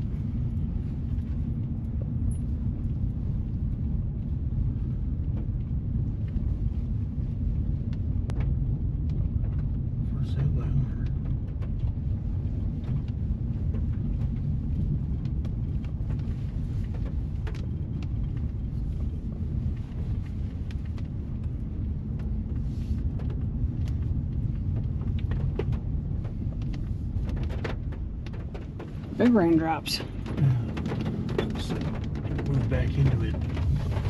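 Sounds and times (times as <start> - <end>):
car driving rumble: 0.0 - 34.0.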